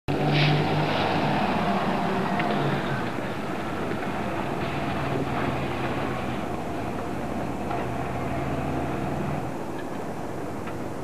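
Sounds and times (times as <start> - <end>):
outdoor noise: 0.1 - 11.0
car engine running: 0.6 - 9.7.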